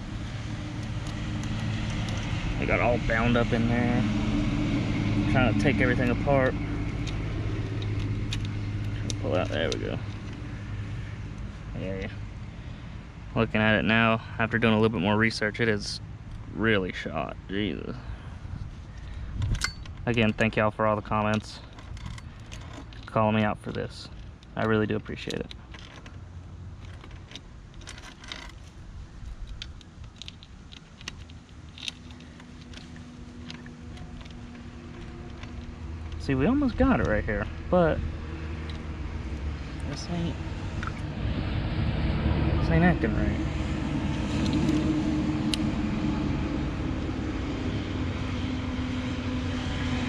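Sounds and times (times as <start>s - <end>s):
low mechanical hum: 0.0s - 50.0s.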